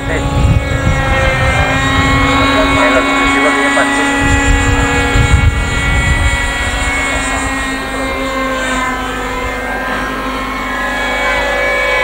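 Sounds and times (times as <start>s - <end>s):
low rumble: 0.0s - 10.5s
model airplane engine buzzing: 0.0s - 12.0s.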